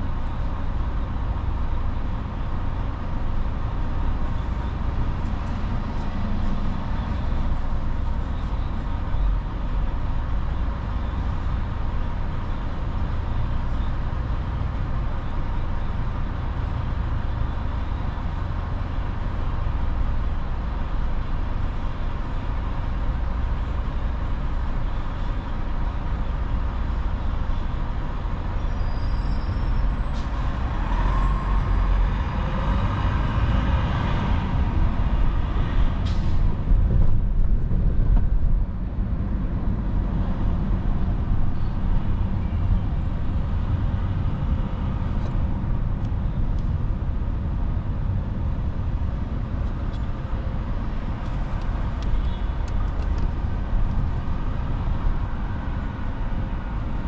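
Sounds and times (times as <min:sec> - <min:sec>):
city traffic rumble: 0:00.0 - 0:57.0.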